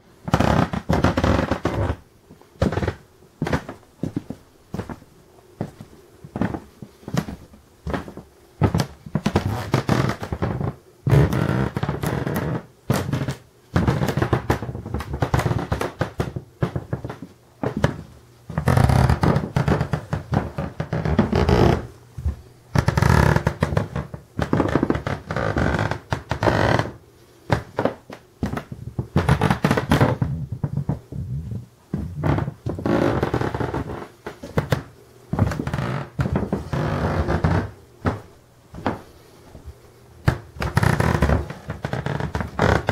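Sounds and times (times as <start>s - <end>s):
wooden floorboards creaking: 0.2s - 2.0s, 2.6s - 39.1s, 40.2s - 42.9s.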